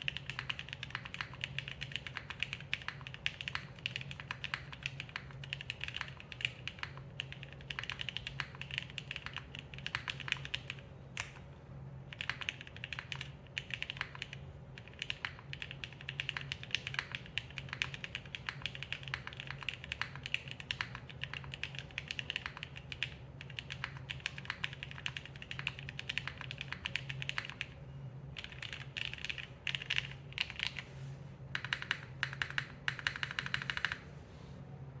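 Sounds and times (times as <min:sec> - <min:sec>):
fast mechanical keyboard typing: 0:00.0 - 0:11.4, 0:12.1 - 0:30.9, 0:31.5 - 0:34.0.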